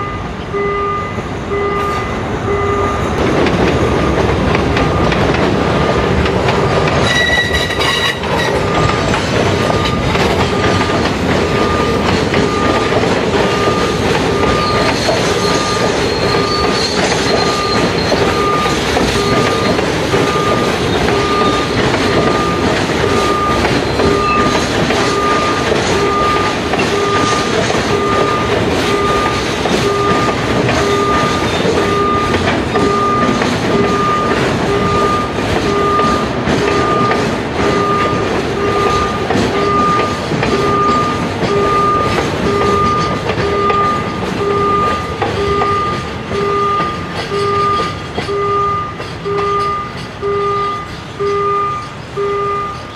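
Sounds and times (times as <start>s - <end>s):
electronic beeping: 0.0s - 3.2s, 7.1s - 52.9s
freight train wheels on rails: 0.0s - 52.9s.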